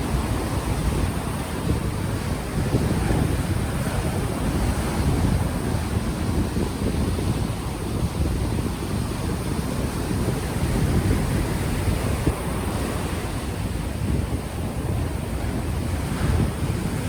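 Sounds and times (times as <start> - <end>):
ocean waves washing ashore: 0.0 - 17.0
wind buffeting microphone: 0.0 - 17.0.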